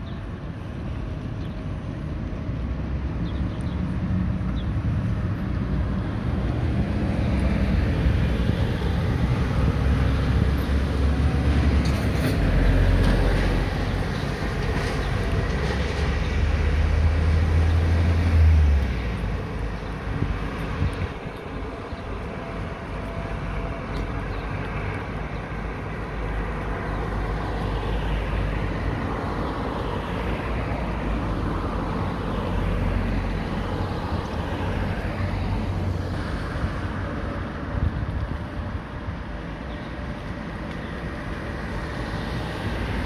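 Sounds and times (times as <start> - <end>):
cars passing on wet road: 0.0 - 43.0.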